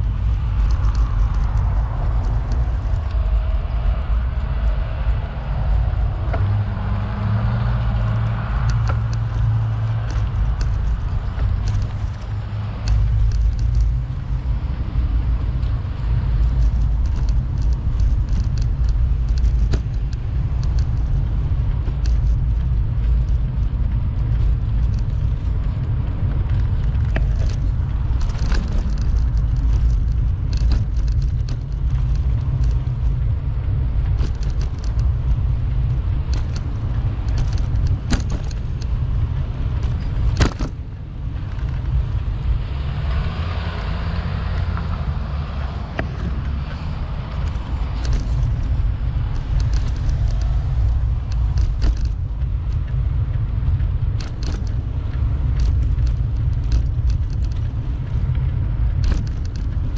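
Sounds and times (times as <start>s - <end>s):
bicycle clicks and rattles: 0.0s - 5.0s, 7.5s - 59.9s
wind and road rumble: 0.0s - 59.9s.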